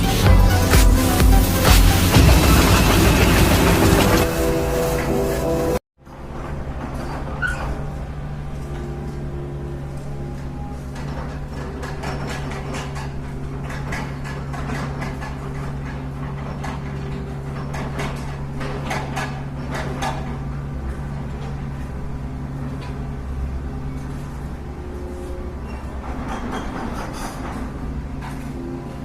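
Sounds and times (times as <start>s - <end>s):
hydraulic pump humming: 0.0s - 26.3s.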